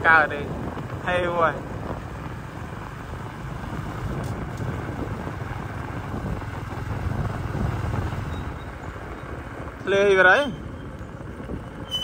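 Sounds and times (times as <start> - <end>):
vehicle engine rumble: 0.0 - 12.0
wind buffeting microphone: 0.0 - 12.0.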